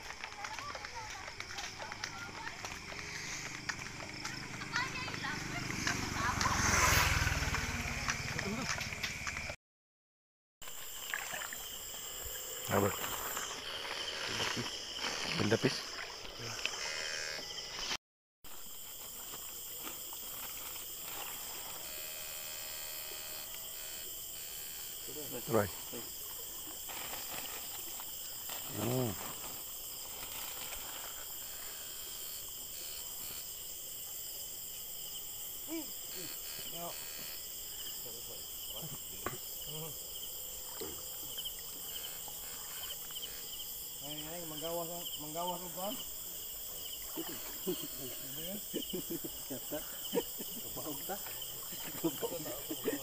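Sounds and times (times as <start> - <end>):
crickets trilling: 0.0 - 9.6, 10.6 - 53.0.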